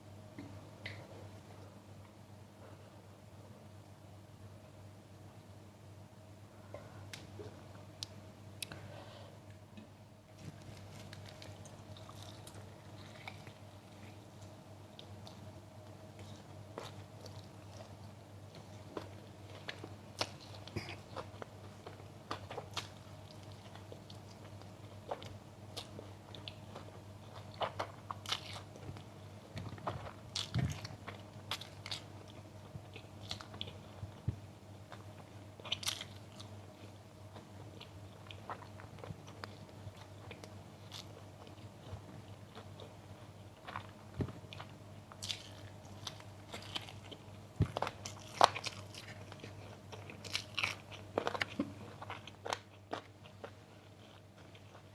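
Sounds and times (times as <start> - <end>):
faint low hum: 0.0 - 54.9
crunchy food chewing: 10.3 - 54.9.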